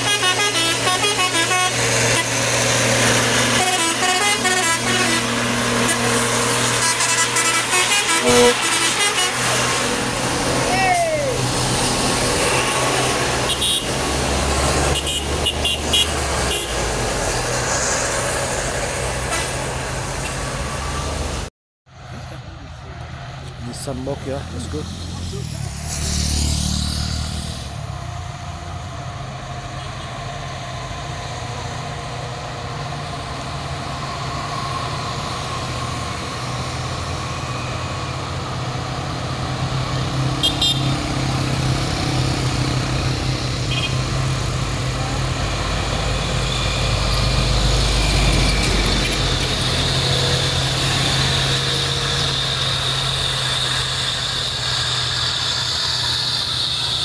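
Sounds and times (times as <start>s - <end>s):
heavy truck and bus engines: 0.0s - 57.0s.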